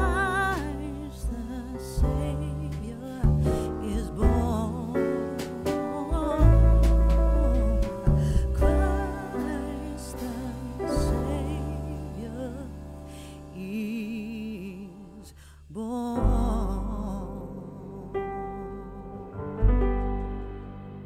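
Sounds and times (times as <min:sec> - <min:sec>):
song with vibrato vocals: 0:00.0 - 0:19.6
deep bass: 0:00.0 - 0:21.0.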